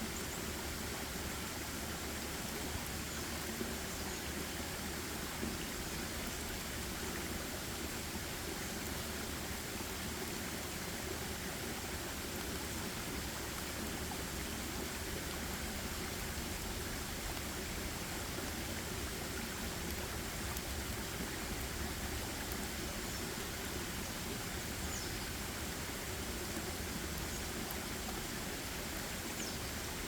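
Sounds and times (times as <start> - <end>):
rushing forest ambience: 0.0 - 30.0.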